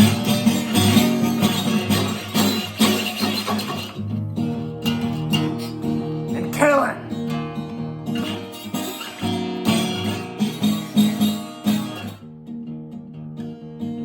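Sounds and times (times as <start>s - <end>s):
acoustic guitar blues playing: 0.0s - 14.0s.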